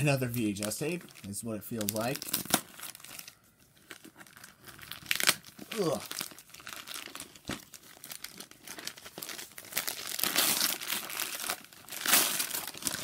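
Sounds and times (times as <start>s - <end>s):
wrapping paper crinkling and tearing: 0.0s - 13.0s.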